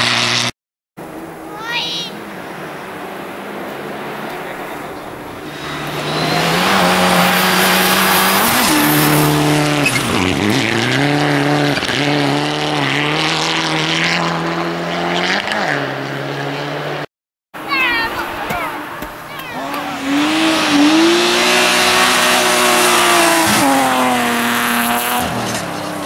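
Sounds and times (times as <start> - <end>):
rally car engine at high revs: 0.0 - 1.4, 2.2 - 26.0.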